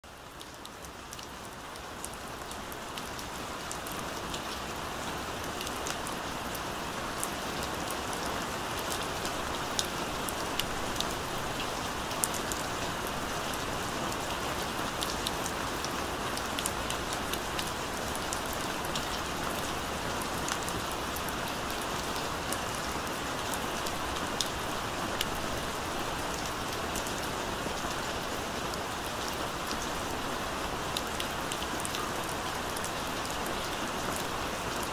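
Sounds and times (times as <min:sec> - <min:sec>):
gentle rain falling: 0:00.0 - 0:34.9
sharp raindrops: 0:00.1 - 0:34.9.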